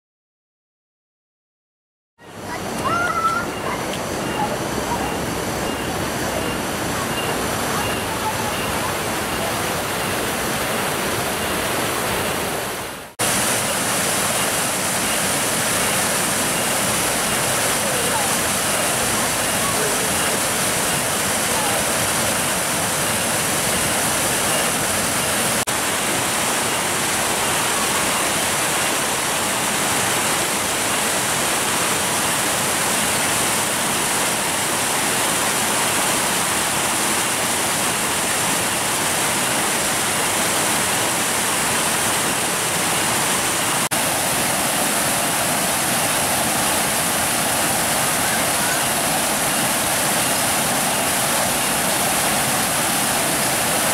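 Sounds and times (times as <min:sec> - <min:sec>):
stream pouring over rocks: 0:02.3 - 0:53.9.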